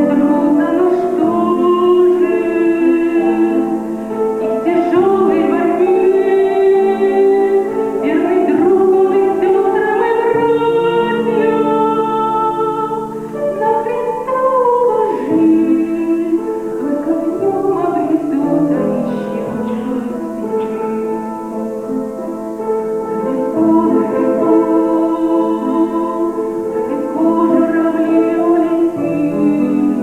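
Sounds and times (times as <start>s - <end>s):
woman singing slow song: 0.0s - 22.4s, 23.0s - 30.0s
instrumental accompaniment: 0.0s - 30.0s.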